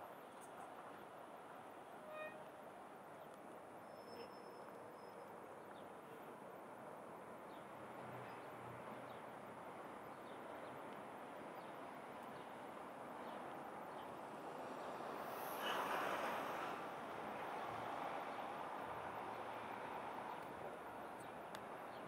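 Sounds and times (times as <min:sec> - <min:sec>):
distant traffic hum: 0:00.0 - 0:22.0.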